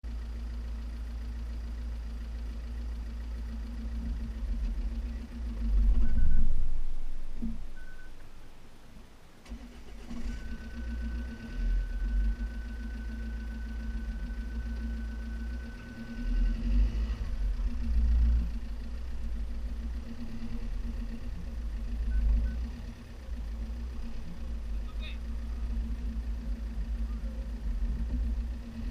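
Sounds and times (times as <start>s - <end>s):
car engine low rumble: 0.0s - 28.9s.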